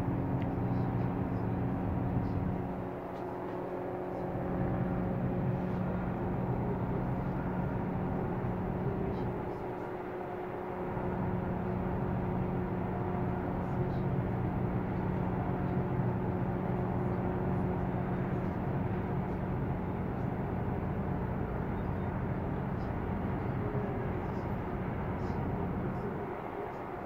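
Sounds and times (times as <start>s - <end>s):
ship engines droning: 0.0s - 27.0s.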